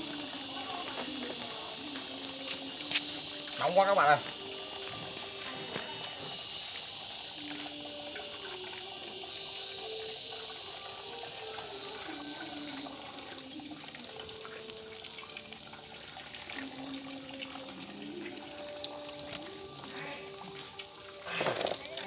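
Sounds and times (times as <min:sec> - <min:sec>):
faint background music: 0:00.0 - 0:22.0
water running and splashing: 0:00.0 - 0:22.0.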